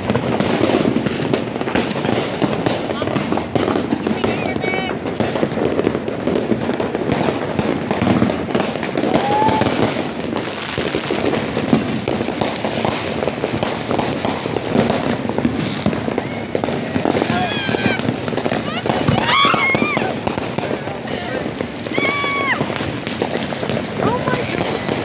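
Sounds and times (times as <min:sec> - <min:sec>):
fireworks and firecrackers popping: 0:00.0 - 0:25.0.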